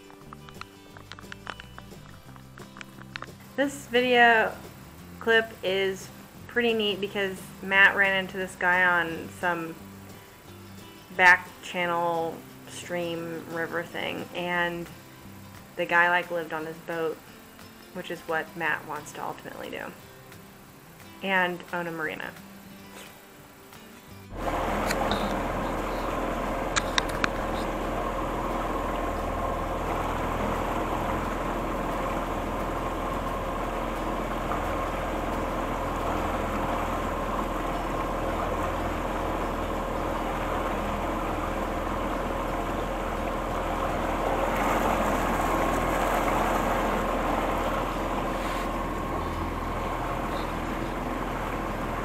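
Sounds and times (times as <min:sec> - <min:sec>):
boat motor running: 0:00.0 - 0:15.0, 0:24.3 - 0:52.0.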